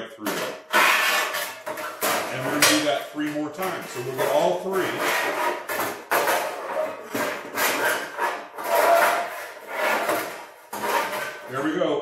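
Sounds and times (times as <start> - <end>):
sheet steel scraping and rattling: 0.2 - 11.8.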